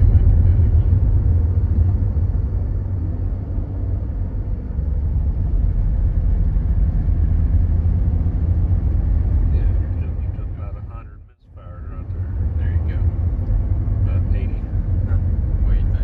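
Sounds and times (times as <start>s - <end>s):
misfiring engine rumble in cabin: 0.0s - 16.0s
road noise: 0.0s - 16.0s.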